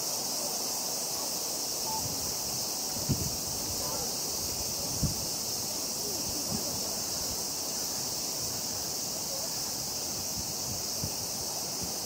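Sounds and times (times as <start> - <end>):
high-pitched insect chorus: 0.0 - 12.0
wind buffeting the microphone: 1.8 - 12.0.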